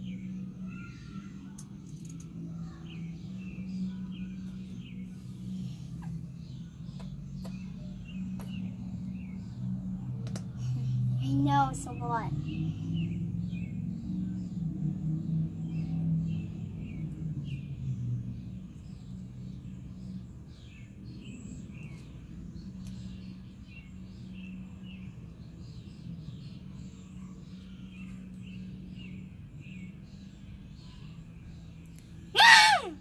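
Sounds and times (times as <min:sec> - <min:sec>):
small birds chirping: 0:00.0 - 0:33.0
steady low hum: 0:00.0 - 0:33.0.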